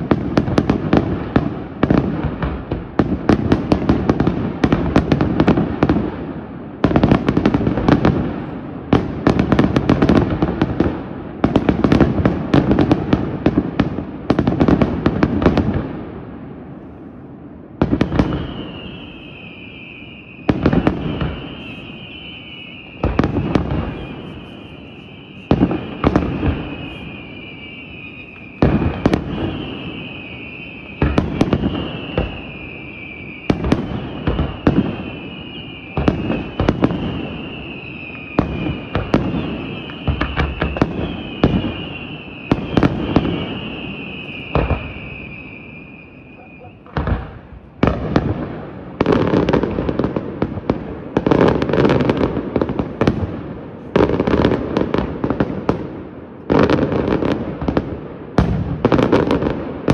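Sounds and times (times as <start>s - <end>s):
fireworks bursting: 0.0s - 59.9s
fireworks crackle: 0.0s - 59.9s.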